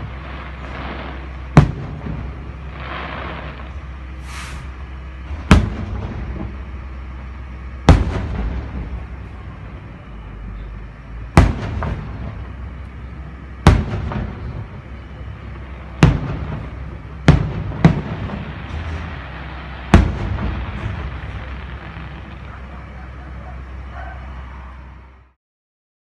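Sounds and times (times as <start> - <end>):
fireworks bangs with echo: 0.0 - 4.4, 5.3 - 24.4
low rumble: 0.0 - 25.4.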